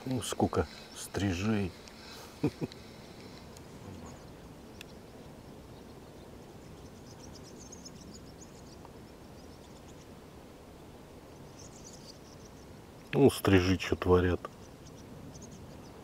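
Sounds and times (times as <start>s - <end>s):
swifts chirping: 0.0s - 16.0s.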